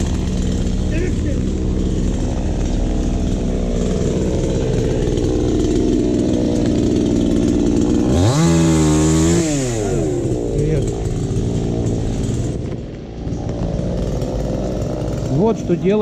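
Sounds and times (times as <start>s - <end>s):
chainsaw running and revving: 0.0s - 16.0s.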